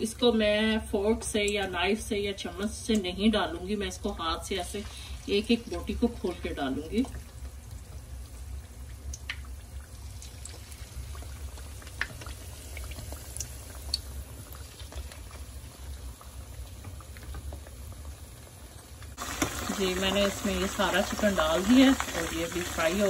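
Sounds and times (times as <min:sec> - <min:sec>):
chicken frying in hot oil: 0:01.2 - 0:23.0.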